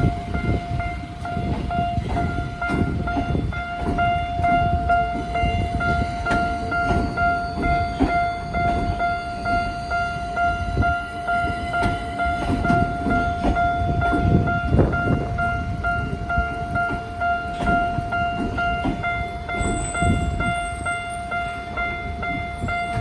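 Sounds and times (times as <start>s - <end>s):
level crossing alarm bell: 0.0s - 23.0s
train rumble and wheel clatter: 0.0s - 23.0s.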